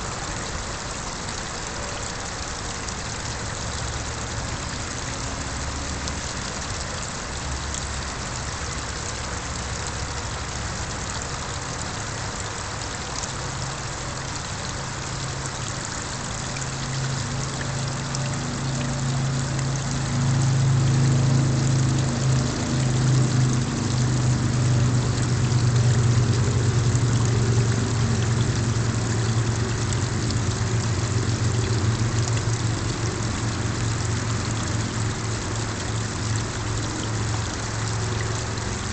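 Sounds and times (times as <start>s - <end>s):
small waterfall splashing: 0.0s - 38.9s
low engine hum: 2.7s - 38.9s.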